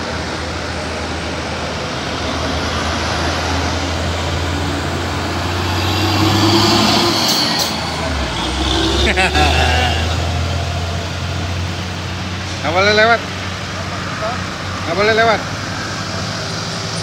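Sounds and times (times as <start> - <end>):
diesel truck driving past: 0.0 - 17.0.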